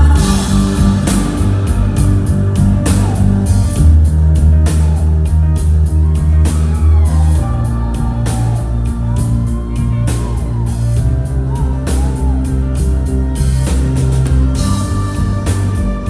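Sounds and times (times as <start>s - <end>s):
low bass notes: 0.0s - 16.0s
steady drum beat: 0.0s - 16.0s.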